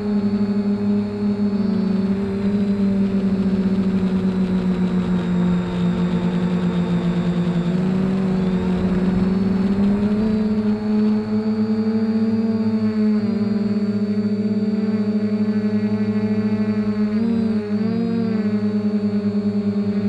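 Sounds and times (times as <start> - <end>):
drone motors humming: 0.0 - 20.0.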